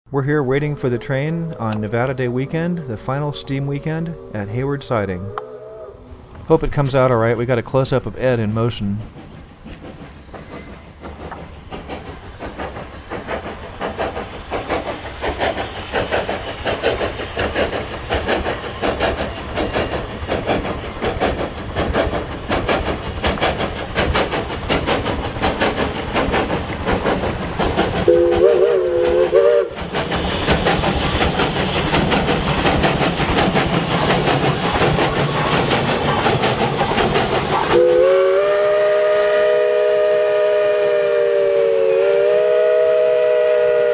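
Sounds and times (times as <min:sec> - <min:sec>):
steam locomotive chuffing: 0:00.1 - 0:43.9.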